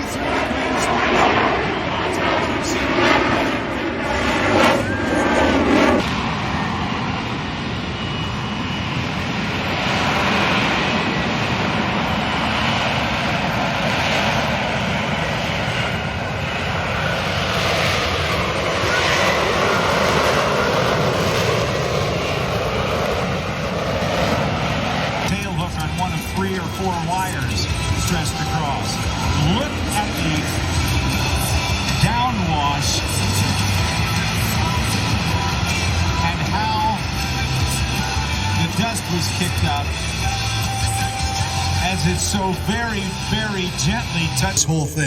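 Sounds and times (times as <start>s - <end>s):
jet downwash: 0.0s - 45.0s
jet engine roaring: 0.0s - 45.0s.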